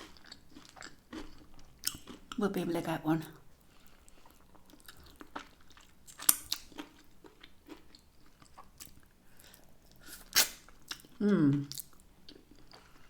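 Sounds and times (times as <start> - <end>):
chewing crunchy food: 0.0 - 2.4, 3.4 - 13.0.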